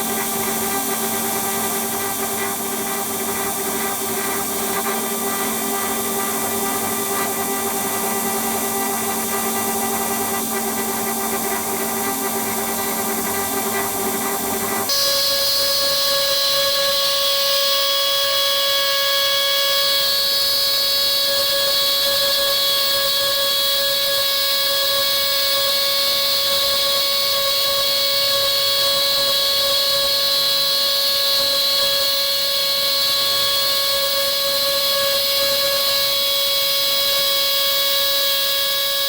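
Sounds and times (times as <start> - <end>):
router spindle whine: 0.0 - 39.0.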